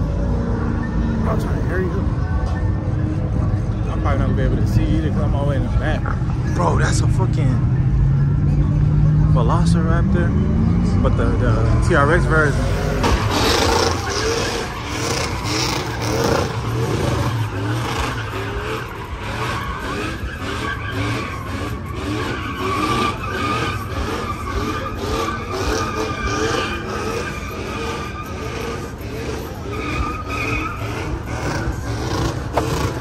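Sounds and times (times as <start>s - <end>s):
truck tires squealing: 0.0s - 8.4s, 9.4s - 33.0s.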